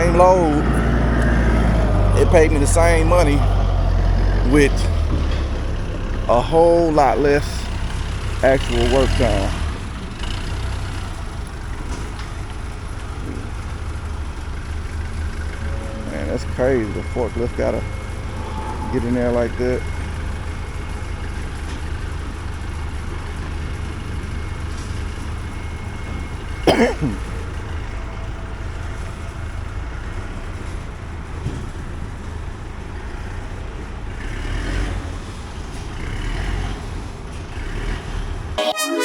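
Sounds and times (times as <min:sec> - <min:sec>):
vehicle engine running: 0:00.0 - 0:38.6.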